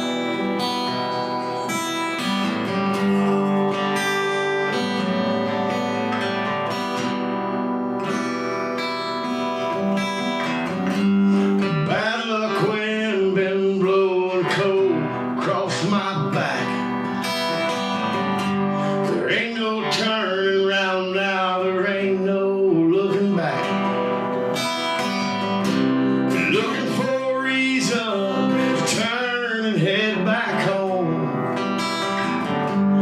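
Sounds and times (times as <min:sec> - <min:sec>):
person singing: 0:00.0 - 0:06.4, 0:08.0 - 0:33.0
acoustic guitar chords: 0:00.0 - 0:33.0.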